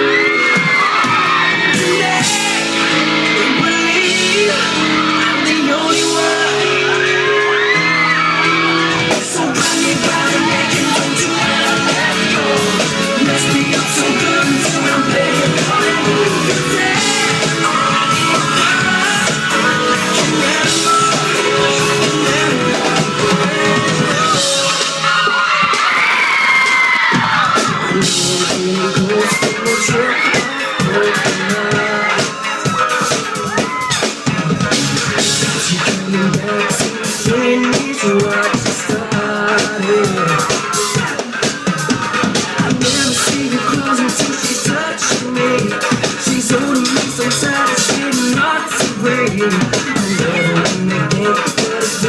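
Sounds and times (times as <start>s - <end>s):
person singing: 0.0s - 25.7s, 27.1s - 52.0s
drum kit beat: 0.0s - 52.0s
live band with guitar: 0.0s - 52.0s.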